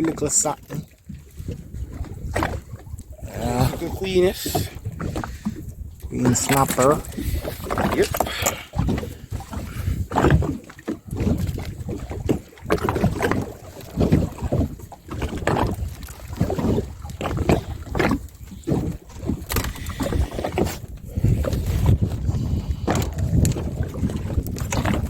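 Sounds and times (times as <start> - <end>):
water slapping against boat hull: 0.0 - 25.0
wind buffeting microphone: 0.0 - 25.0.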